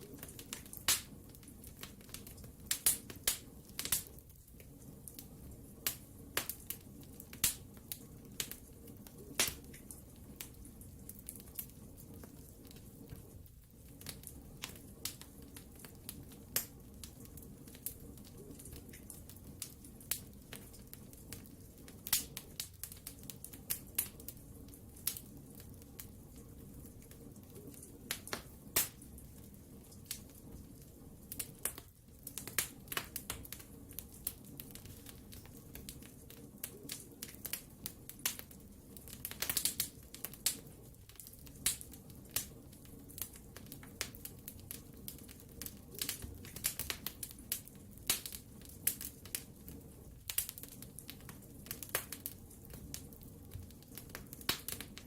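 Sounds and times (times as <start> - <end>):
burning logs crackling and popping: 0.0 - 55.0
low rumble of flame: 0.0 - 55.0.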